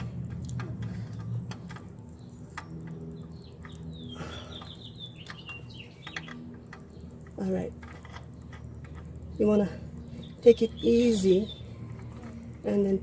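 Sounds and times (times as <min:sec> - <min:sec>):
low steady hum: 0:00.0 - 0:13.0
bird chirping: 0:01.8 - 0:12.8.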